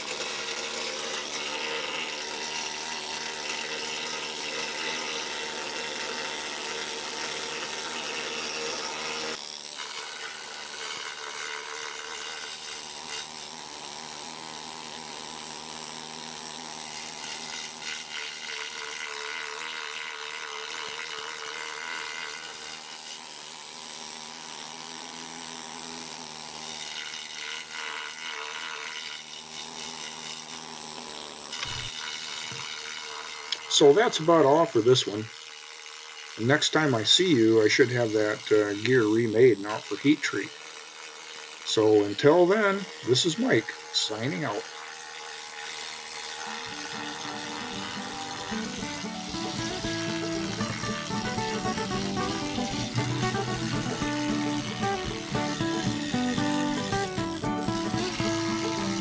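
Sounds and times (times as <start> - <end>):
needle scaler buzzing chatter on metal: 0.0 - 59.0.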